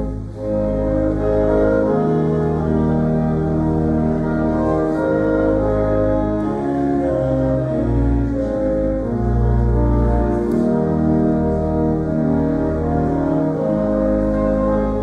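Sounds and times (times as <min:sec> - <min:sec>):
church organ playing a hymn: 0:00.0 - 0:15.0.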